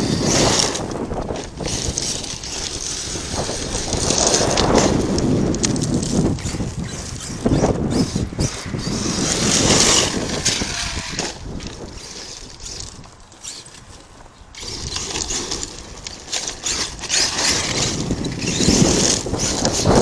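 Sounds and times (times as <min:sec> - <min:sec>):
electric motor whining: 0:00.0 - 0:20.0
tyres churning gravel: 0:00.0 - 0:20.0
wind buffeting microphone: 0:00.0 - 0:20.0.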